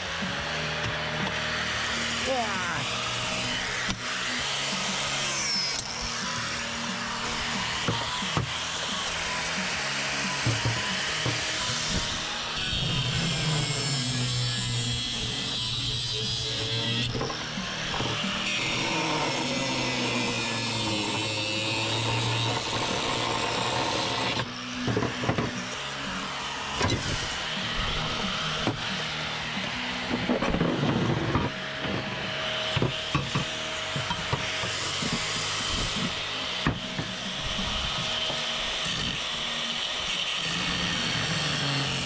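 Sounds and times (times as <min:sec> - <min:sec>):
background music: 0:00.0 - 0:42.0.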